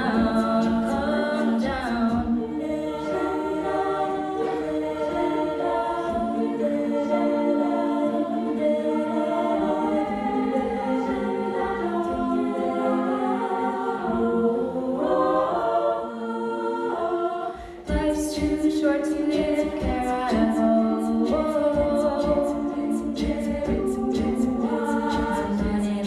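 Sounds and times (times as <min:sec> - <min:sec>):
a cappella group singing chords: 0:00.0 - 0:26.0.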